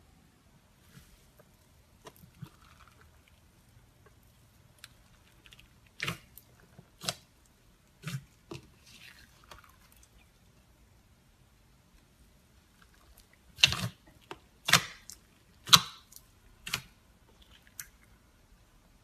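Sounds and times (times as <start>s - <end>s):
slime squishing with wet pops: 0.9s - 10.8s, 12.0s - 18.4s.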